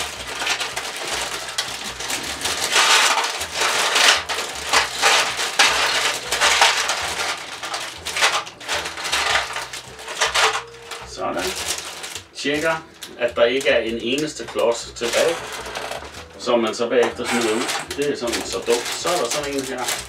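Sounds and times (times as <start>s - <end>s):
plastic bricks clattering on metal: 0.0s - 20.0s.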